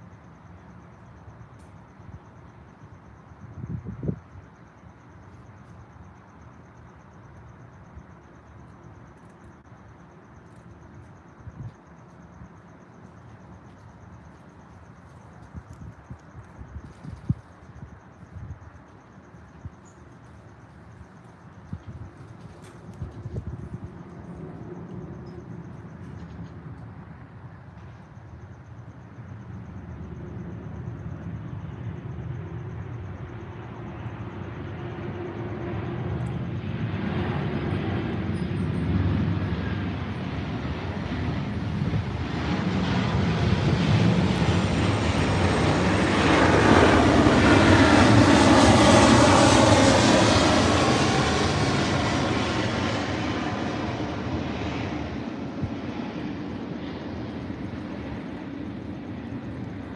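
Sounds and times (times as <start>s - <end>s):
aircraft engine rumbling overhead: 0.0s - 59.9s.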